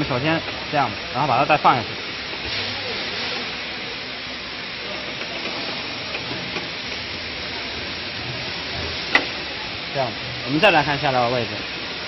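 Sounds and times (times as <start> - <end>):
packing machine whirring and hissing: 0.0 - 12.0.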